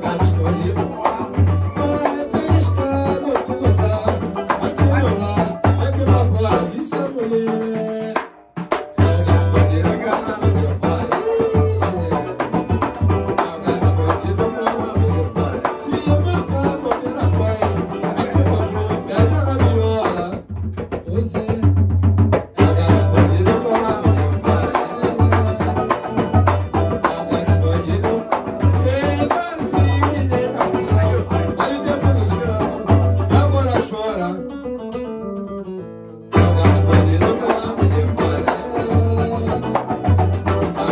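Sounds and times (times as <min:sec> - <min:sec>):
hand drum deep pulse: 0:00.0 - 0:08.0, 0:08.6 - 0:33.9, 0:36.4 - 0:40.9
voices singing: 0:00.0 - 0:08.2, 0:09.0 - 0:20.4, 0:22.6 - 0:34.4, 0:36.3 - 0:40.9
strummed acoustic strings: 0:00.0 - 0:40.9.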